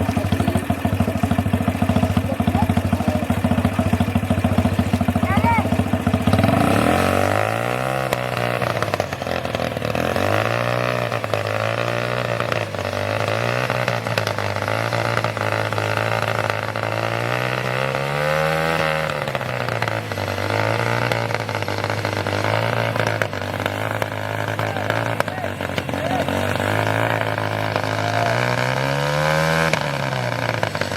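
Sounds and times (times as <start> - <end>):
tractor diesel engine revving: 0.0 - 30.9.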